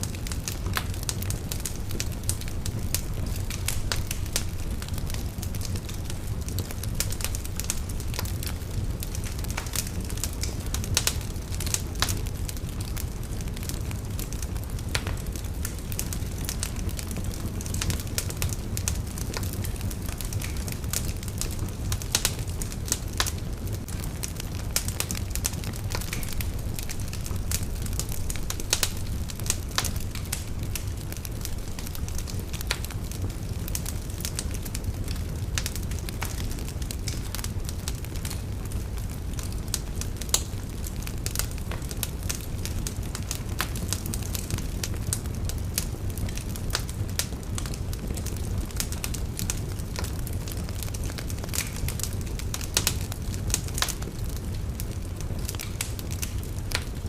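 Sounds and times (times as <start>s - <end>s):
fire low rumble: 0.0s - 57.0s
wood fire crackles and pops: 0.0s - 57.0s.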